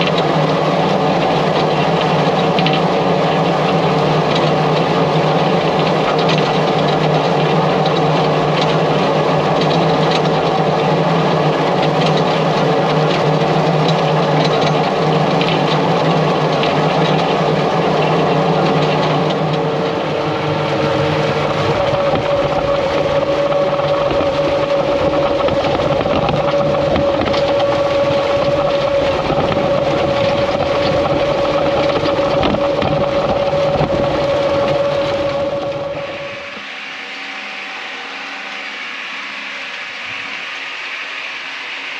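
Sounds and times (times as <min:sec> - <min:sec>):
tractor engine running: 0:00.0 - 0:36.8
steady whine: 0:00.0 - 0:41.9.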